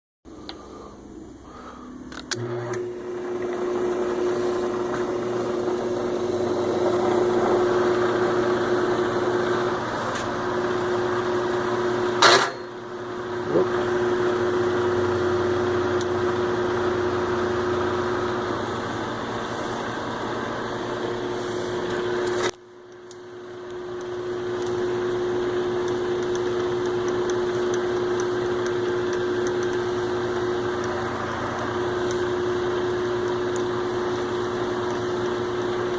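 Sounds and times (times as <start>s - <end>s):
metal lathe humming and whining: 2.2s - 22.5s, 23.2s - 35.9s.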